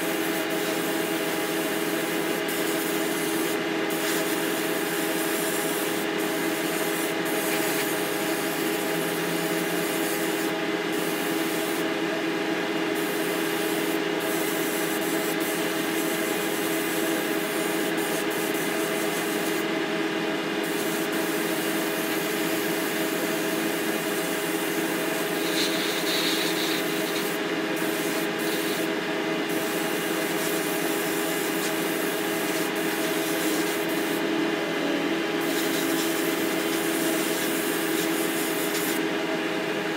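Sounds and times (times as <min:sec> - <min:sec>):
paint spray gun hissing: 0:00.0 - 0:12.0, 0:12.9 - 0:19.7, 0:20.6 - 0:28.9, 0:29.5 - 0:34.2, 0:35.4 - 0:39.0
spray booth fan hum: 0:00.0 - 0:39.9.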